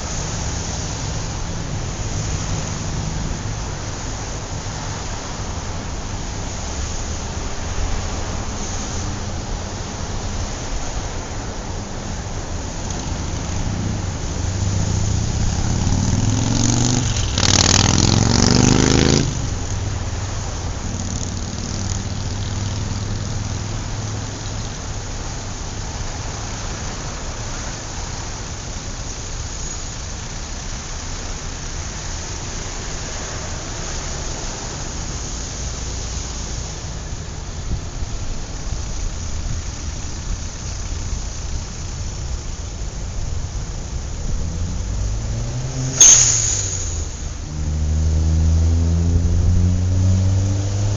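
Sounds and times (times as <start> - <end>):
vehicle engine accelerating: 0.0 - 28.3, 30.6 - 50.9
traffic rumble: 0.0 - 50.9.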